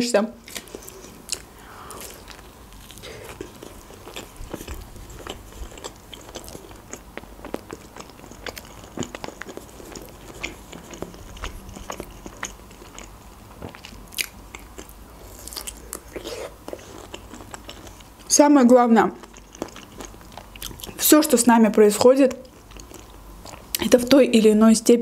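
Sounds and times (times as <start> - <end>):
chewing with wet mouth clicks: 0.5 - 18.3, 19.2 - 21.1, 21.7 - 23.9.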